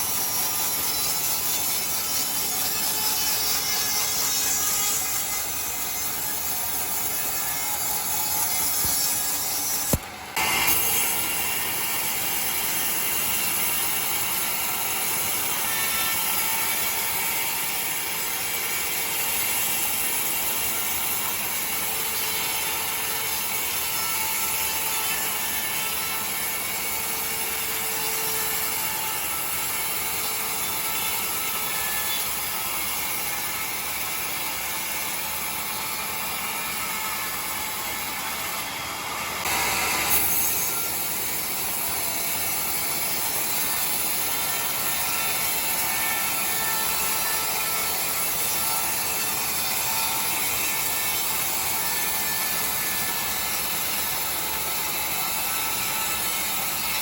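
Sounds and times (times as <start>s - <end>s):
sawmill saw cutting timber: 0.0s - 57.0s.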